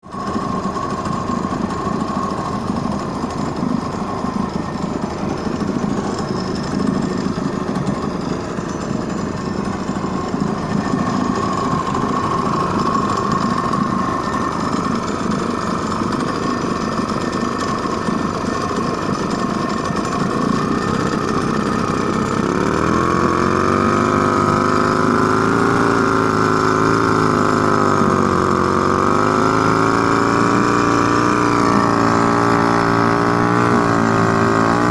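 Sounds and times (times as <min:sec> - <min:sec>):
boat engine clattering: 0:00.0 - 0:34.9.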